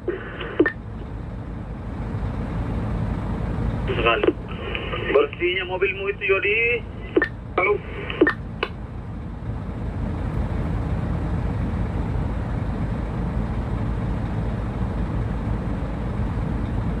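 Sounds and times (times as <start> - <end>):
diesel truck engines rumbling: 0.0 - 17.0.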